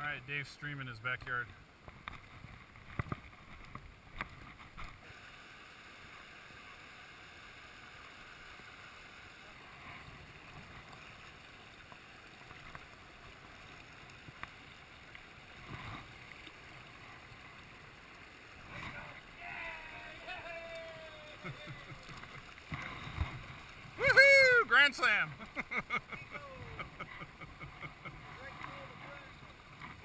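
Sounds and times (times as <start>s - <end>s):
stream water rushing over rocks: 0.0s - 30.0s.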